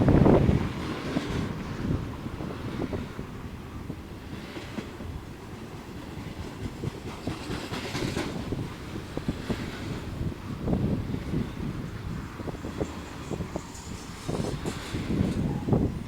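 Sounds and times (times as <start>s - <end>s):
train wheels rumbling on rail: 0.0s - 16.0s
wheels clacking over rail joints: 0.0s - 16.0s.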